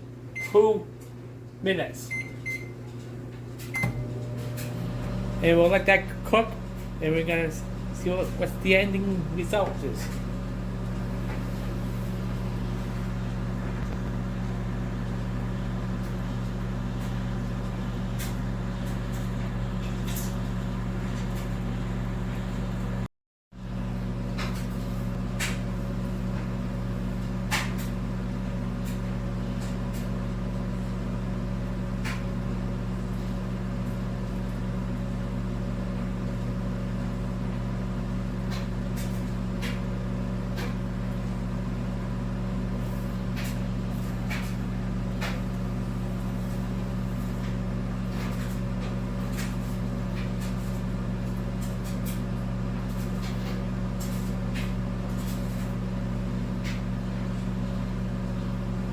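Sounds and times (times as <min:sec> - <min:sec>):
microwave oven humming: 0:00.0 - 0:58.9.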